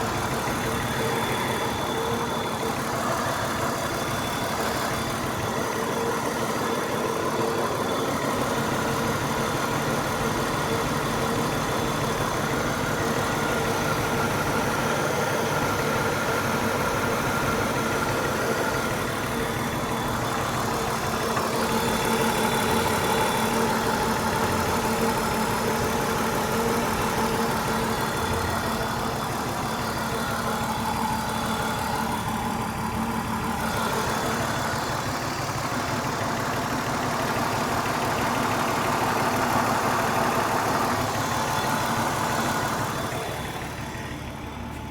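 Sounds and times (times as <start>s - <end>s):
car engine idling with misfire: 0.0s - 44.9s.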